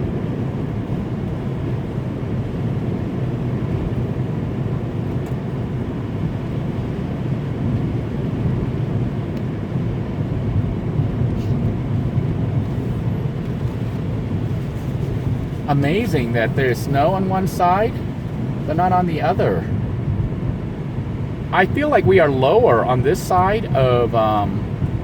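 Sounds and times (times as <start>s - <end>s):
van engine and tyre rumble: 0.0s - 25.0s.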